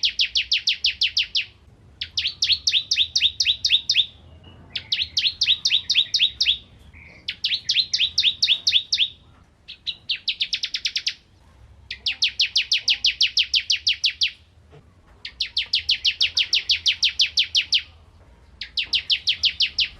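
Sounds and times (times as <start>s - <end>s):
bird singing trilled phrases: 0.0s - 14.5s, 15.2s - 18.0s, 18.6s - 19.9s.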